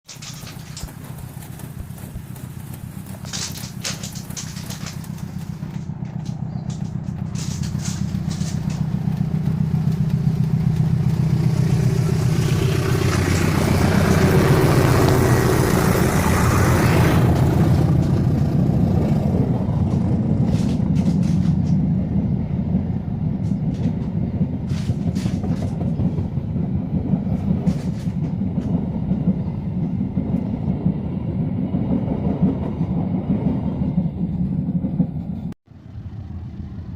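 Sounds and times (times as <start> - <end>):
wheel clicks on rail joints: 0.0 - 35.5
diesel locomotive engine hum: 0.0 - 36.9
train coaches rumbling: 0.0 - 36.9
train passing in loud rush: 0.0 - 36.9.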